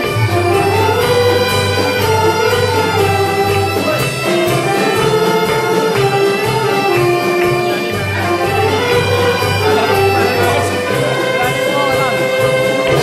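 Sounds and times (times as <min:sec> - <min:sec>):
saxophone melody: 0:00.0 - 0:13.0
wind band playing folk dance: 0:00.0 - 0:13.0.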